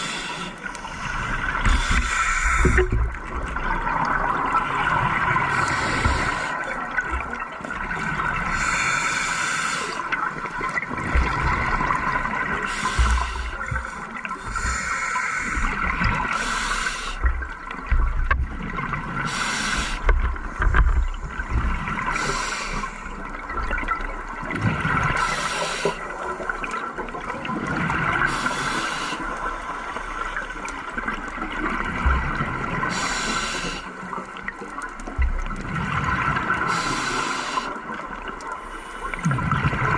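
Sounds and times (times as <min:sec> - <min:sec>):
regulator exhaled bubbles gurgling: 0:00.0 - 0:39.9
steady underwater hum: 0:00.0 - 0:39.9.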